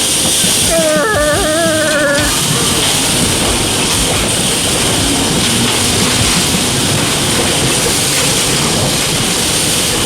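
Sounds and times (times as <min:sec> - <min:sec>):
bumper cars rumbling and rolling: 0:00.0 - 0:10.0.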